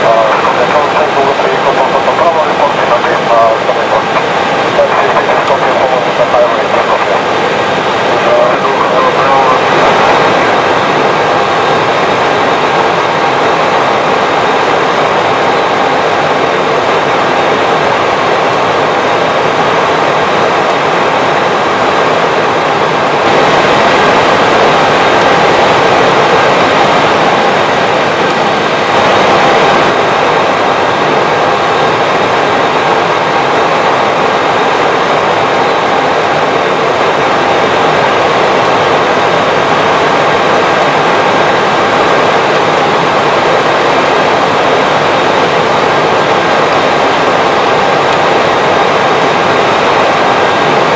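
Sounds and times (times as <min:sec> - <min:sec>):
airflow and engine noise: 0:00.0 - 0:50.9.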